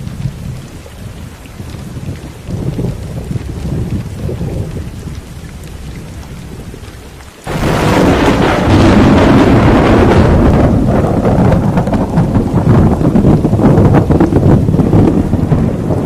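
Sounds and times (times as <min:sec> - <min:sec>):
rain: 0:00.0 - 0:16.0
thunder rumbling and cracking: 0:00.0 - 0:16.0.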